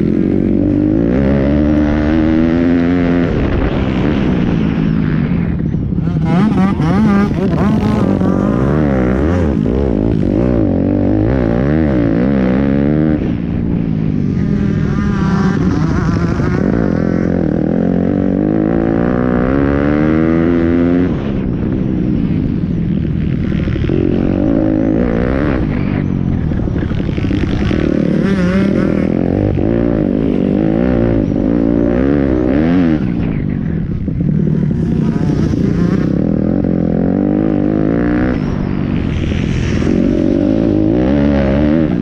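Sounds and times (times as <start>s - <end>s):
pit bike engines revving: 0.0s - 42.0s.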